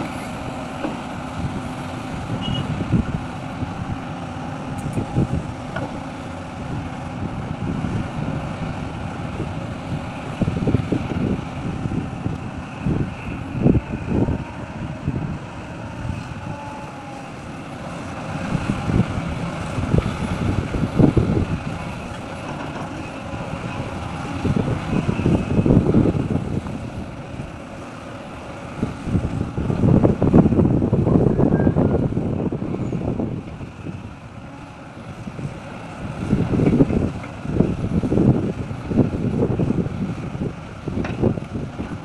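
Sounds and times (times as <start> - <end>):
diesel machinery rumbling: 0.0 - 42.0
wind buffeting microphone: 0.0 - 42.0.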